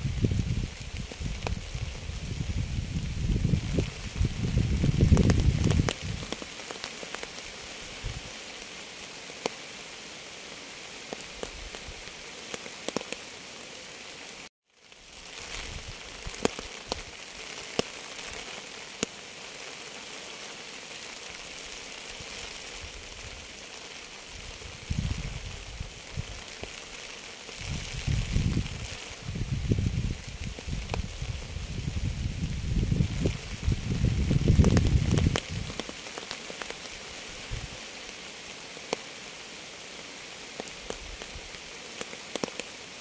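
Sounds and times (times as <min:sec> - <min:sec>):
raindrops ticking on a surface: 0:00.0 - 0:43.0
steady rain: 0:00.0 - 0:43.0.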